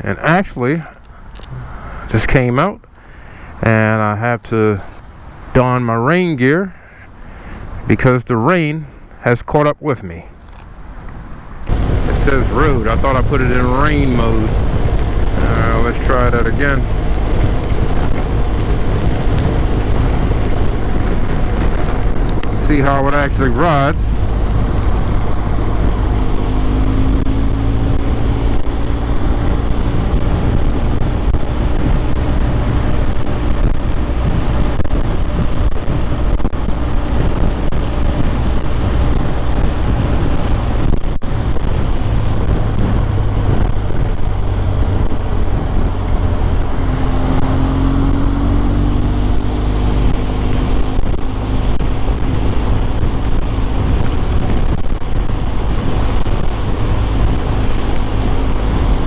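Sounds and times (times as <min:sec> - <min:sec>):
road noise: 0:00.0 - 0:59.0
wind noise: 0:10.3 - 0:59.0.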